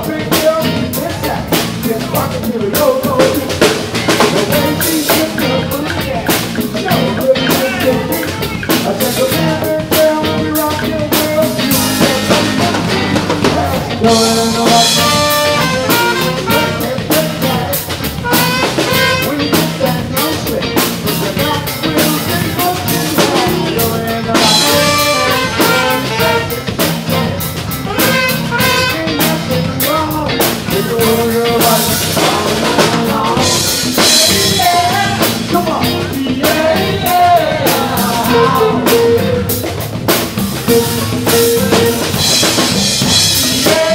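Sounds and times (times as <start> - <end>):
drum kit steady beat: 0.0 - 43.9
live band playing dance music: 0.0 - 43.9.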